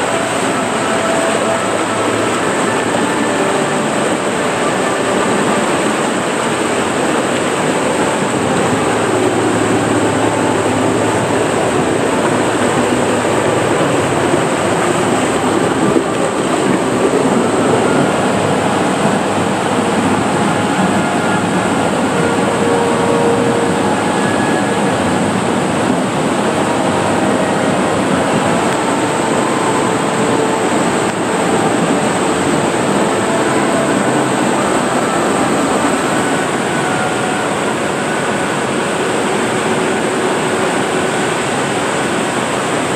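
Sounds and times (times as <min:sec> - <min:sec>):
rushing churning water: 0:00.0 - 0:42.9.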